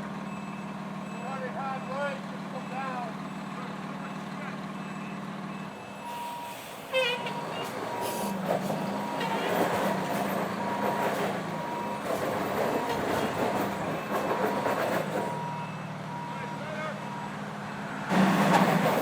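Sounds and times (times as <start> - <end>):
diesel engine running: 0.0 - 19.0
truck reversing alarm beeping: 0.0 - 19.0.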